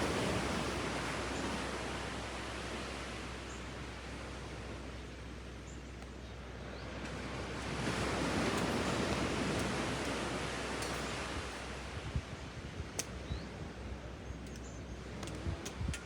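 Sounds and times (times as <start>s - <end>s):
sea waves on a beach: 0.0s - 16.0s.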